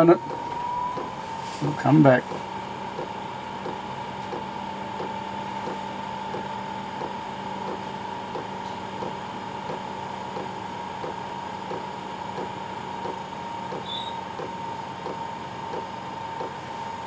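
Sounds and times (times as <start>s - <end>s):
fuel pump ticking: 0.0s - 16.8s
heater fan whine and hum: 0.0s - 17.0s.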